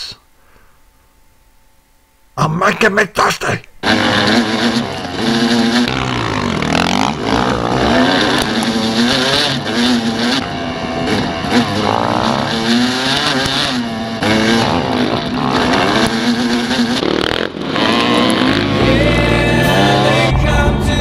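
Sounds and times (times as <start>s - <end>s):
dirt bike engine revving: 3.8s - 21.0s
other dirt bikes running: 3.8s - 21.0s.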